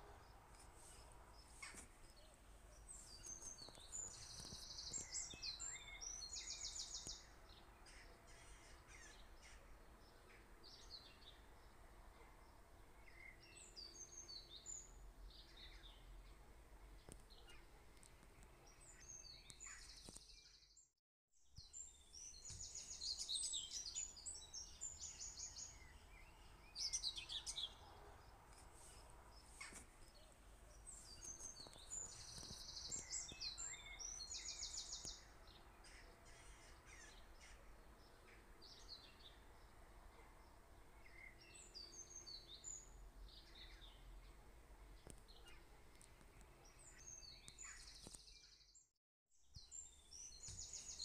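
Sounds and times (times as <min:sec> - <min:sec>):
songbirds chirping and trilling: 0:00.0 - 0:20.9, 0:21.5 - 0:48.9, 0:49.5 - 0:51.0.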